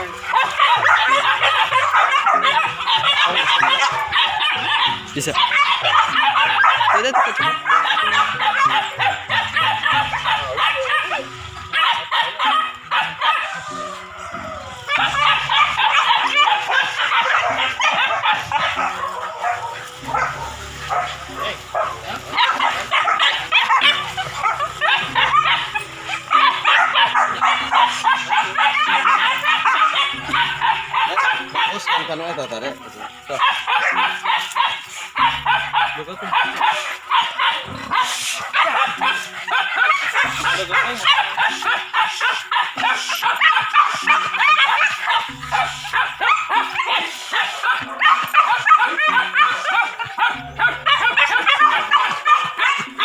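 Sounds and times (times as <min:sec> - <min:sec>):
dogs barking and yelping: 0:00.0 - 0:53.0.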